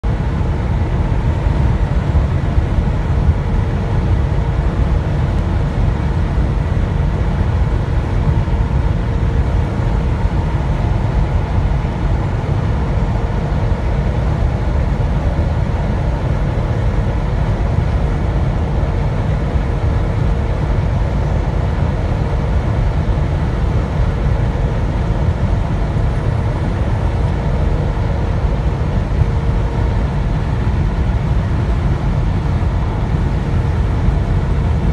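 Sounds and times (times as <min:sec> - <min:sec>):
road rumble inside vehicle: 0:00.0 - 0:34.9.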